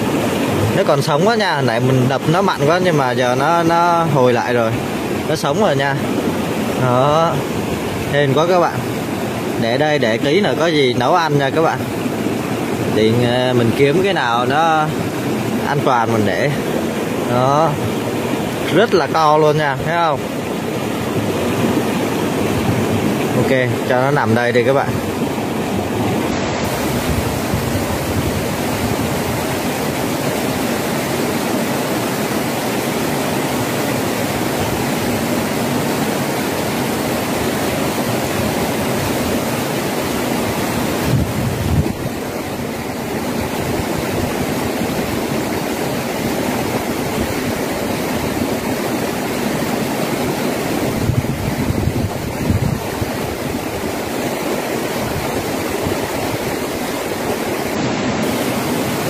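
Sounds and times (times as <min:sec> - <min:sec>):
stream water flowing over rocks: 0:00.0 - 0:59.0.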